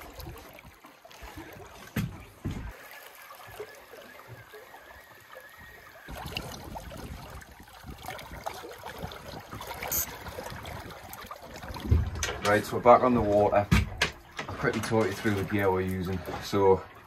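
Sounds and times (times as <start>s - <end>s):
light splashes and knocks: 0.0s - 16.8s
water lapping against boat hull: 0.0s - 17.0s.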